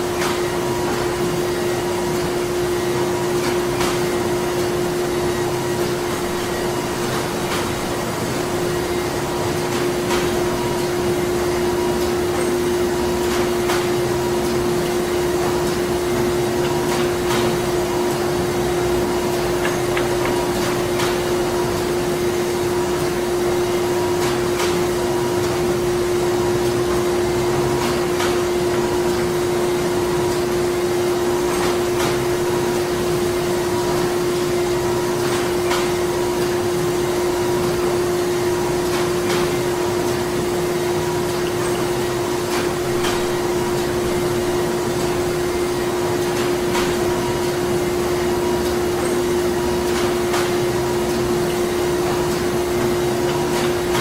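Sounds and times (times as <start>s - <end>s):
factory machinery running: 0.0s - 54.0s.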